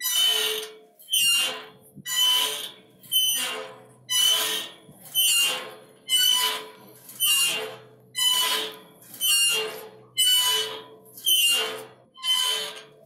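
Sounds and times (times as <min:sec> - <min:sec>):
iron swing squeaking: 0:00.1 - 0:12.8.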